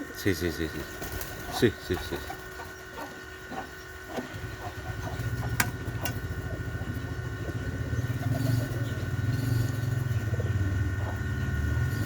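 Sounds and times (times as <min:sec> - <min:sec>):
small engine running: 0:00.7 - 0:12.0.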